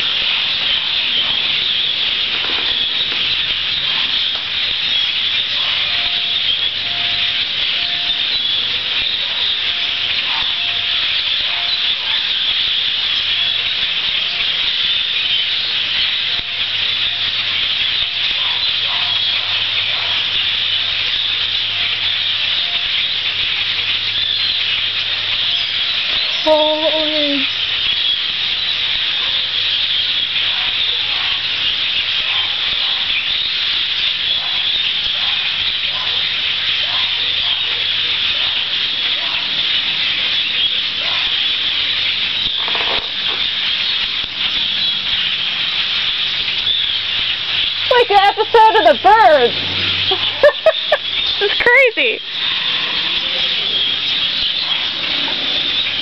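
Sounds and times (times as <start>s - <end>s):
flock of birds calling: 0.0s - 56.0s.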